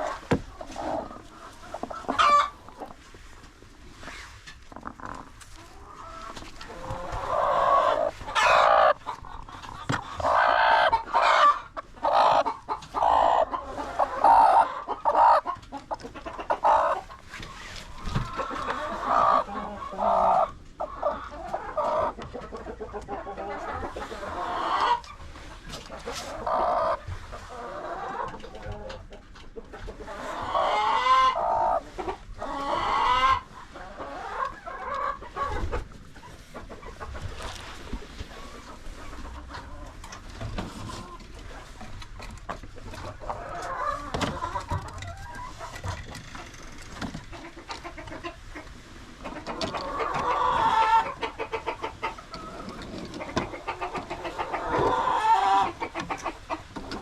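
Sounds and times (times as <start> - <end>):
chickens clucking and squawking: 0.0 - 57.0.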